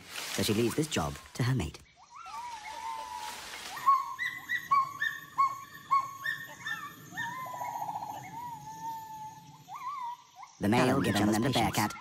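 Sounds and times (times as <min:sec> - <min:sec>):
gibbon hooting calls: 0:02.1 - 0:12.0.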